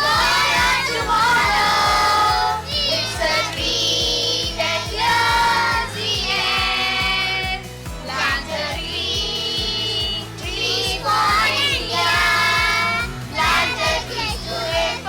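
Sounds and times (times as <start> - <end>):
backing music with steady beat: 0.0 - 15.0
children singing: 0.0 - 15.0.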